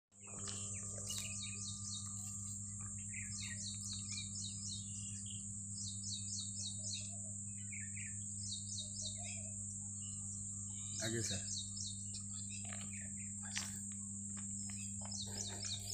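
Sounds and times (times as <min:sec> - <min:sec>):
steady low hum: 0:00.1 - 0:15.9
birds chirping: 0:00.2 - 0:15.9
high-pitched insect buzz: 0:00.2 - 0:15.9.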